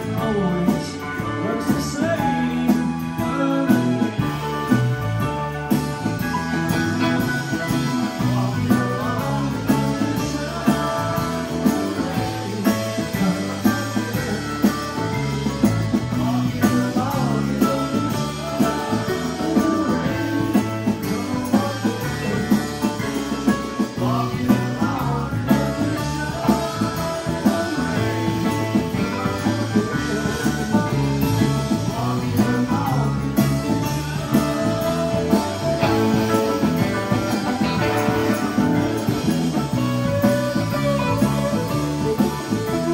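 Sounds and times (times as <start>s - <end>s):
drum kit: 0.0s - 42.9s
electric bass: 0.0s - 42.9s
electric guitar: 0.0s - 42.9s
keyboards: 0.0s - 42.9s
congas: 1.8s - 42.9s.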